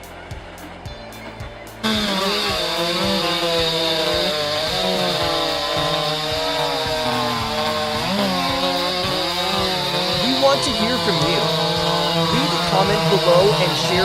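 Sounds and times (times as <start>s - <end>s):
chainsaw engine at high revs: 1.8s - 14.0s.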